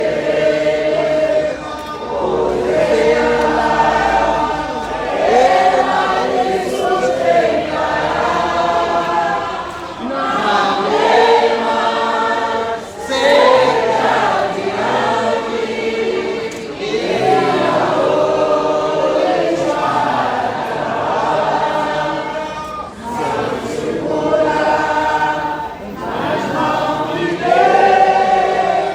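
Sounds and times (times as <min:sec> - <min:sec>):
choir singing: 0:00.0 - 0:28.9.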